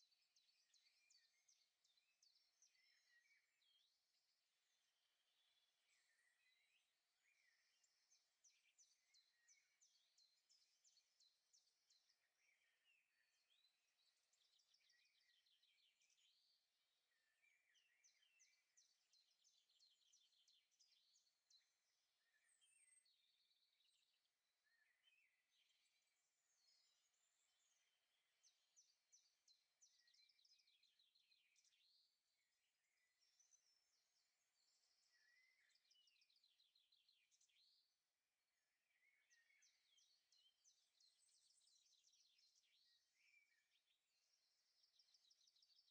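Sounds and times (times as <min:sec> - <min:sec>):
small birds singing: 0:00.0 - 0:45.9.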